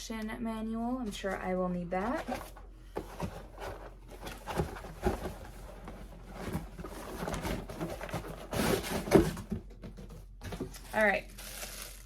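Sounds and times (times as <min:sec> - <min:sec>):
packaging rustling: 0:02.0 - 0:12.0.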